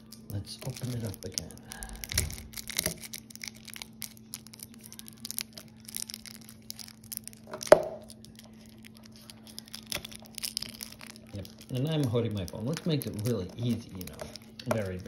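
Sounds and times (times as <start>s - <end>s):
plastic wrap crackling and tearing: 0.0s - 15.0s
plastic wrap snapping: 0.0s - 15.0s.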